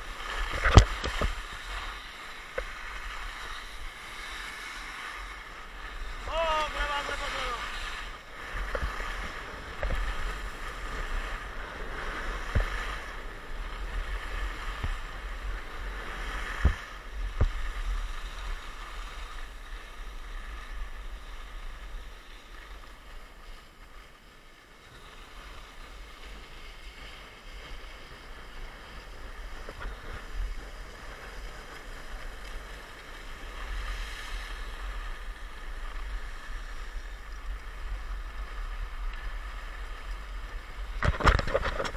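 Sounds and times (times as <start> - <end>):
skis scraping over snow: 0.0 - 41.9.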